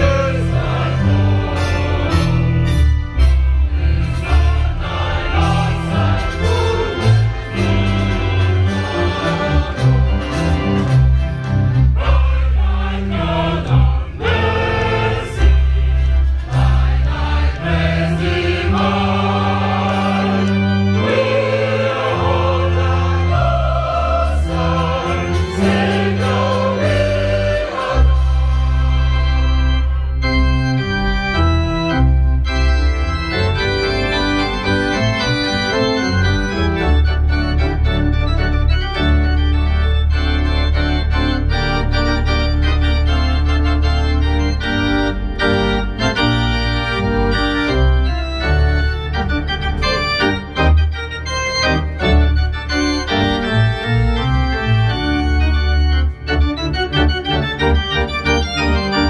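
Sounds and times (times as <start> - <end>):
organ playing: 0.0 - 59.0.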